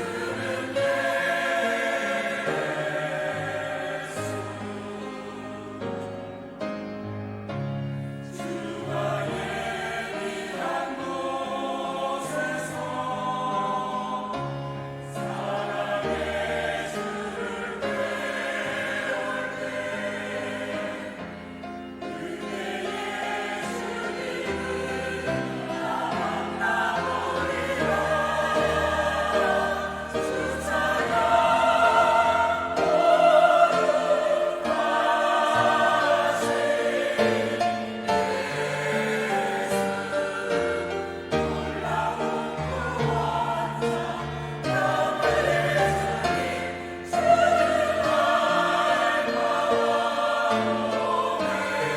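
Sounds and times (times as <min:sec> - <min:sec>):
church choir singing: 0:00.0 - 0:51.9.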